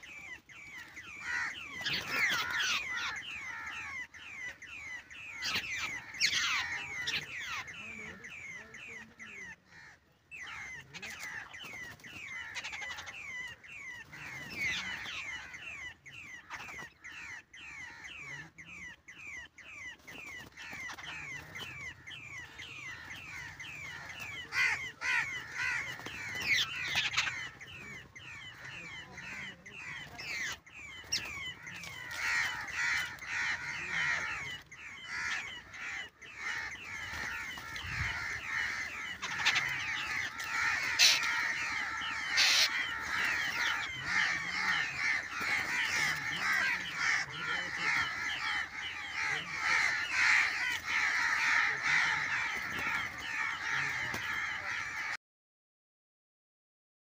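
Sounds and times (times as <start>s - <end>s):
babblers chattering calls: 0.0s - 55.2s.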